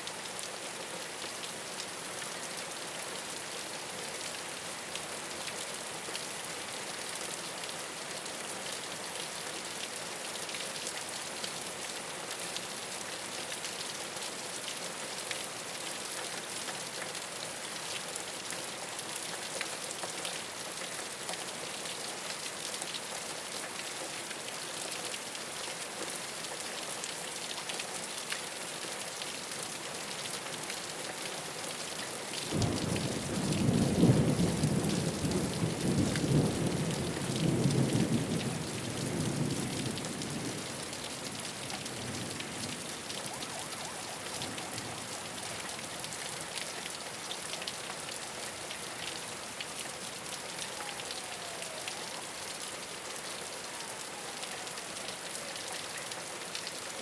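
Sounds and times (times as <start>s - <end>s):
rain on a rooftop: 0.0s - 57.0s.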